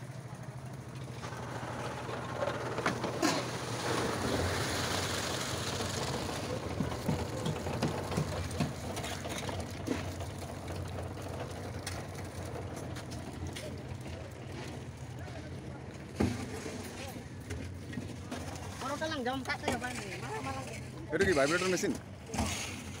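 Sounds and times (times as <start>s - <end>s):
concrete mixer running: 0.0s - 23.0s
wet concrete pouring: 0.2s - 23.0s.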